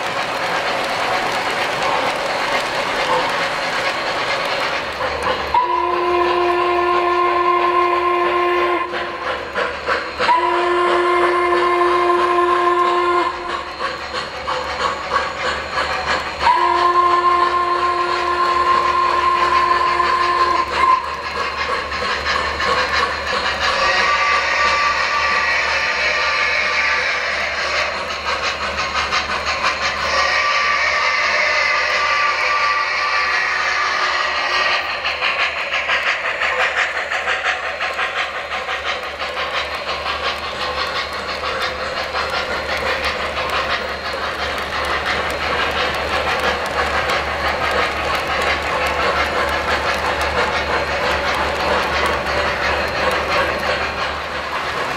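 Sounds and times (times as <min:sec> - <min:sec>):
model train running on track: 0:00.0 - 0:54.9
model train steam whistle: 0:05.5 - 0:14.0, 0:14.8 - 0:53.2.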